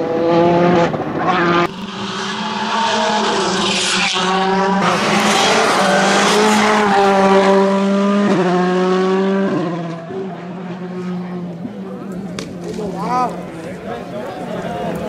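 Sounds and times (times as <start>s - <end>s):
rally car engines at full throttle: 0.0s - 15.0s.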